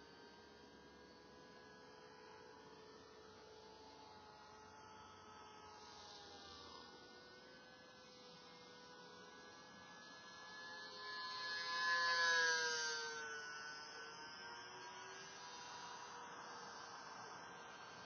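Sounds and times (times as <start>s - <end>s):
distant model aircraft motor whine: 0.0s - 18.0s.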